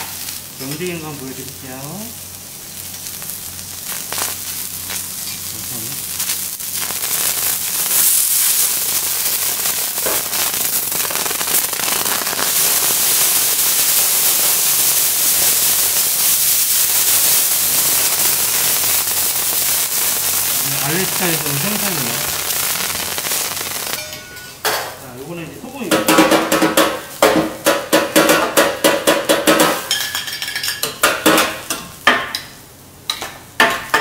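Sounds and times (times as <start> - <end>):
food sizzling on a griddle: 0.0 - 34.0.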